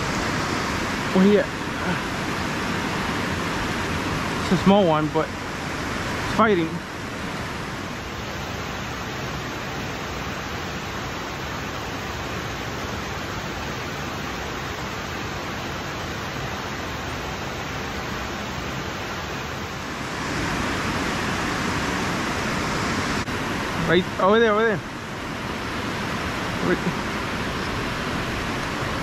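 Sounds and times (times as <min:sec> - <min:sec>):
water rushing over a dam: 0:00.0 - 0:29.0.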